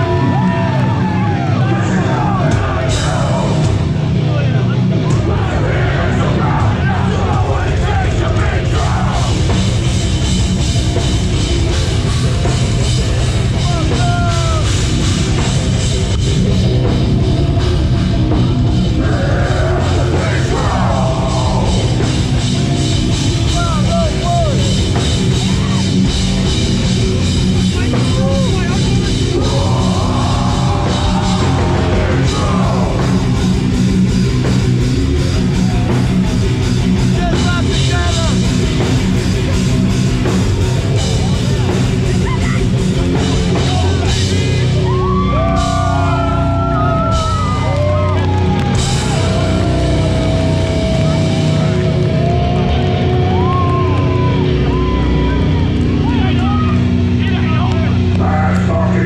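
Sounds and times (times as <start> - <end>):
people shouting over music: 0.0 - 11.0, 12.0 - 59.0
hardcore band playing live: 0.0 - 59.0.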